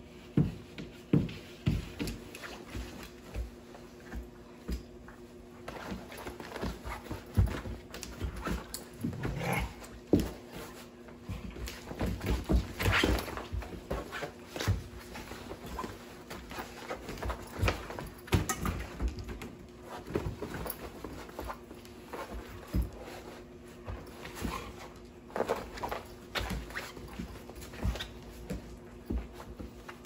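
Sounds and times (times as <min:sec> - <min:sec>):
puppies play-fighting on fabric: 0:00.0 - 0:30.0.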